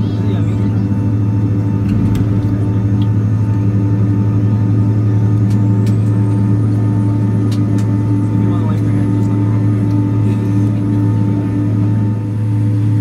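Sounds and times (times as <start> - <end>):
jet engines droning: 0.0 - 13.0.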